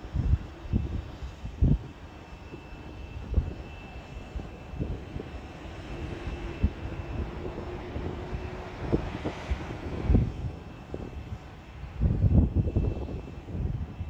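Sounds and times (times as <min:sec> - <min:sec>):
distant jet engine hum: 0:00.0 - 0:14.0
wind buffeting microphone: 0:00.0 - 0:14.0.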